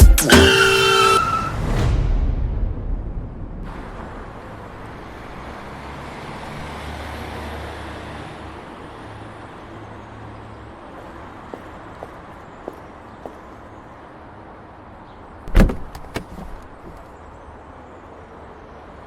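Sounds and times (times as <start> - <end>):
vehicle road noise rumble: 0.5 - 19.0.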